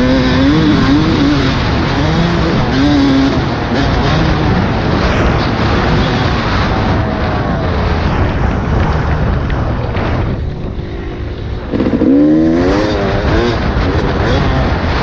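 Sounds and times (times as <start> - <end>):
dirt bike engine revving: 0.0 - 15.0
wind on microphone: 0.0 - 15.0.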